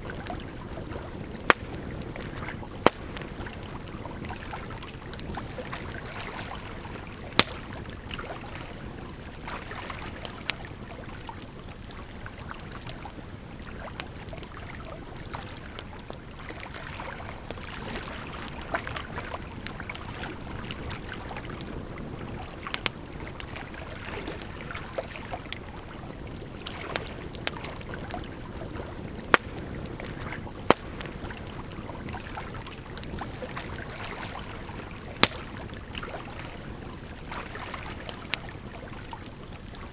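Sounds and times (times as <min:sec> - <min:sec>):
firewood crackling and popping: 0:00.0 - 0:39.9
flowing water: 0:00.0 - 0:39.9.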